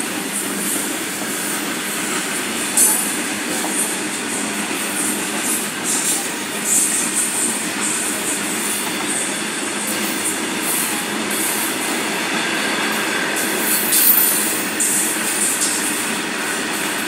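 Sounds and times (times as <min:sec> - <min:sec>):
freight train wheels rumbling: 0:00.0 - 0:17.0
train wheels squealing: 0:00.2 - 0:17.0.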